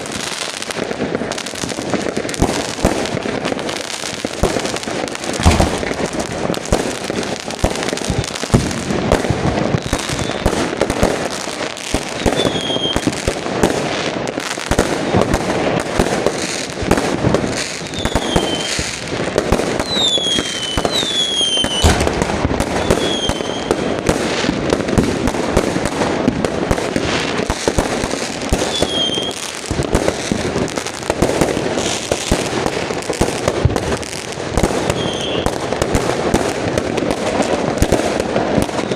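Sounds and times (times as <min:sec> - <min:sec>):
fireworks crackling and banging: 0:00.0 - 0:38.9
fireworks whistling: 0:00.0 - 0:38.9.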